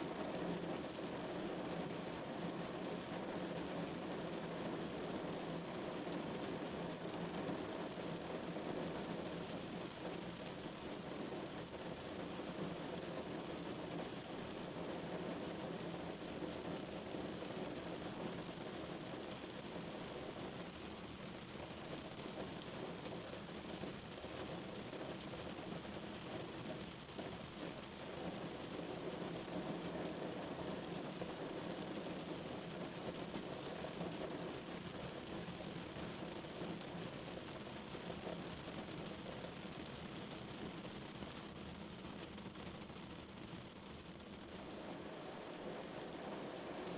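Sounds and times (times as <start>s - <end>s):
rain falling on a car: 0.0s - 46.9s.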